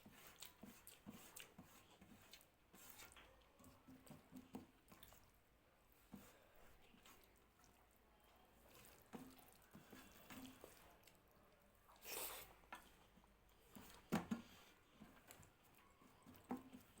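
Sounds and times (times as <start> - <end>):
wet chewing and mouth sounds: 0.0 - 5.5, 6.2 - 8.0, 8.6 - 14.1, 14.7 - 17.0.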